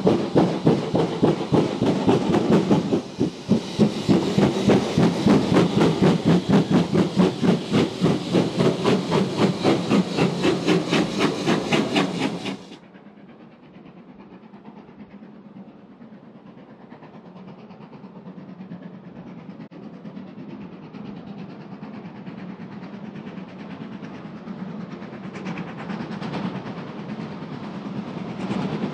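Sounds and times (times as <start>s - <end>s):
steam locomotive chuffing: 0.0s - 28.9s.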